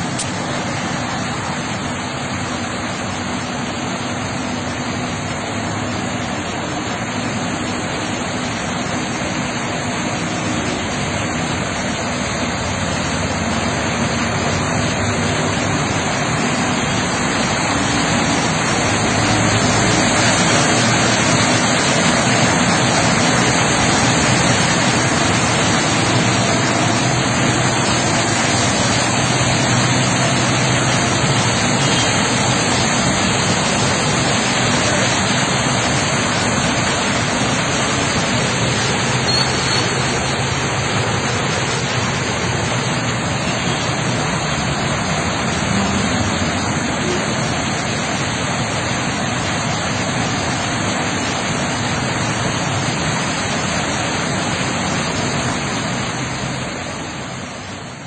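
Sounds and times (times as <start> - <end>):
heavy rain hissing: 0.0 - 58.0
vehicles driving through water: 0.0 - 58.0.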